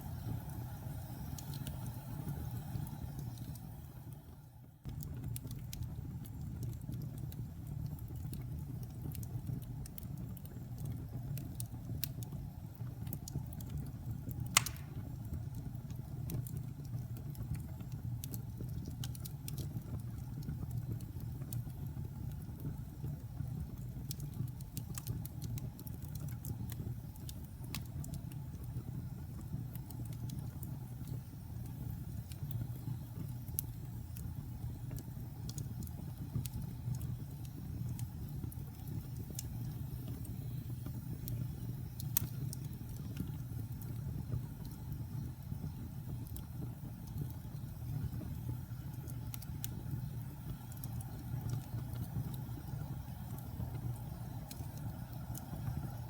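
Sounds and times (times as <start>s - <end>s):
fire crackling: 0.0s - 56.0s
fireplace flames roaring: 0.0s - 56.0s.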